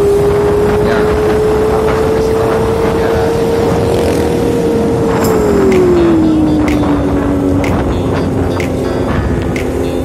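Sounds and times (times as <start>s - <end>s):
motorcycle engine whining: 0.0s - 10.0s.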